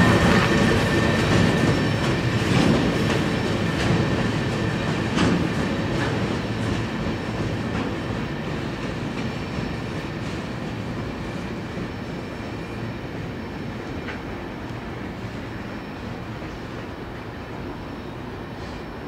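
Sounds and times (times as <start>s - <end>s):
freight train rolling past: 0.0s - 19.0s.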